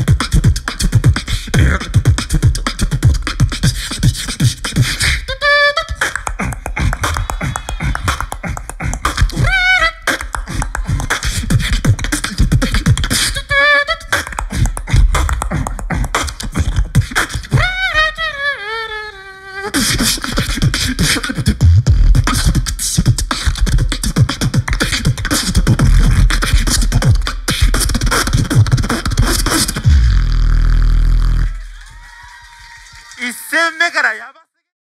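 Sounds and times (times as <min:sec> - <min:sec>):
beatboxing into a microphone: 0:00.0 - 0:31.8
wavering pitched vocal line: 0:00.0 - 0:31.8.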